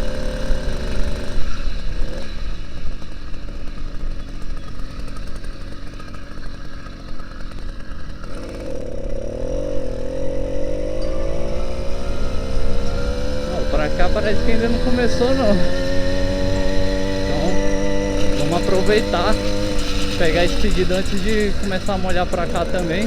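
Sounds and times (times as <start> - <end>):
two-stroke engine running: 0.0 - 23.0.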